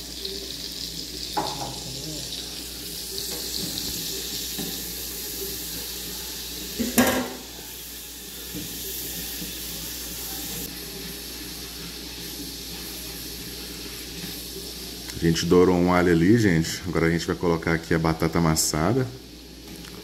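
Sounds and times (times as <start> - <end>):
garlic sizzling in oil: 0.0 - 20.0.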